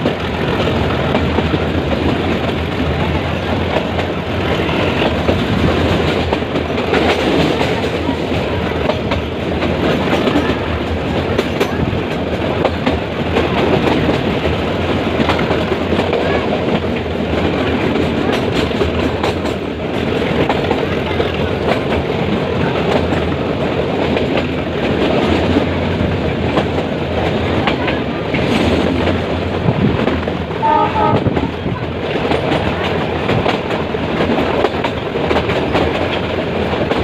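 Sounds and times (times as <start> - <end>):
train rumbling: 0.0 - 37.0
wheels clacking over rail joints: 0.0 - 37.0.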